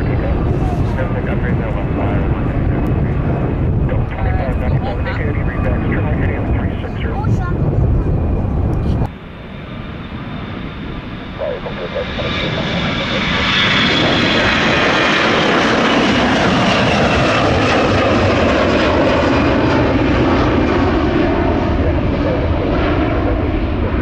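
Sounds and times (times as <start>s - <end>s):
jet engines roaring at takeoff: 0.0s - 24.0s.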